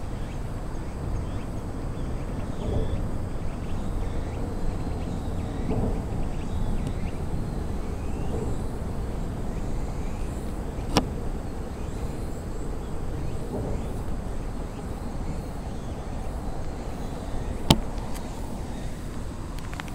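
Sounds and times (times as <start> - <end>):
low outdoor background rumble: 0.0 - 19.9.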